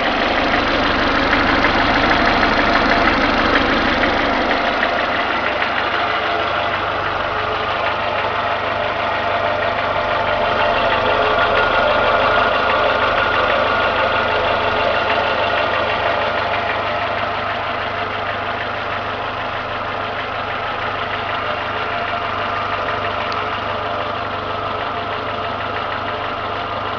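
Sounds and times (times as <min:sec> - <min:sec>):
car engine idling with knock: 0:00.0 - 0:26.9.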